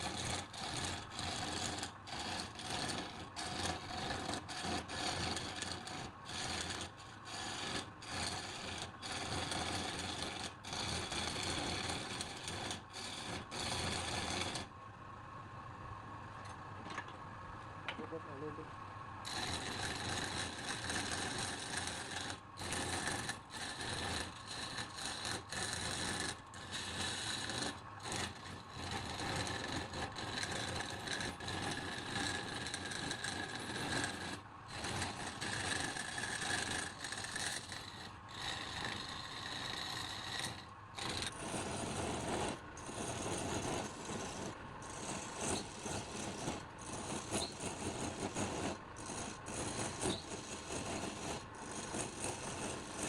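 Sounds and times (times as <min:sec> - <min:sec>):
lathe tool scraping wood: 0:00.0 - 0:14.8, 0:19.2 - 0:53.0.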